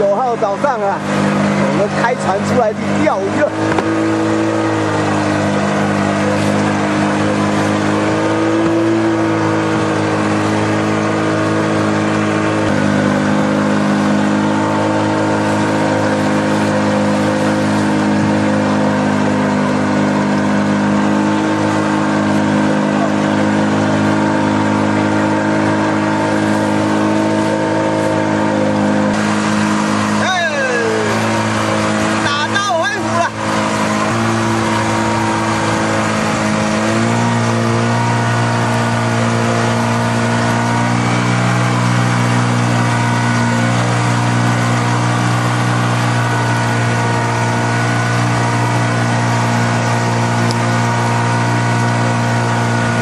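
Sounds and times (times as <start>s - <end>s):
boat engine running: 0.0s - 53.0s
hiss of wind and water: 1.0s - 53.0s.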